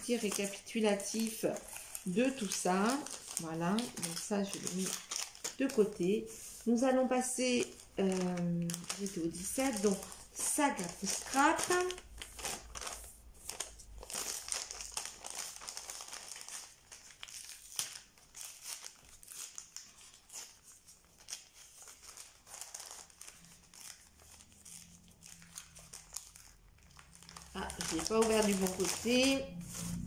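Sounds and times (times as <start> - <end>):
paper envelope rustling: 0.0 - 30.0.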